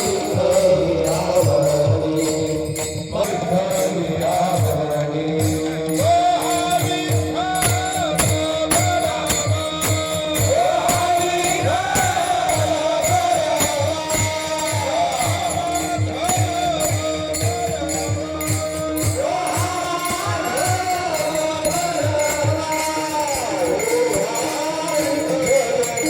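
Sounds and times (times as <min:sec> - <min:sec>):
metallic jingling percussion: 0:00.0 - 0:26.0
person singing devotional melody: 0:00.0 - 0:26.0.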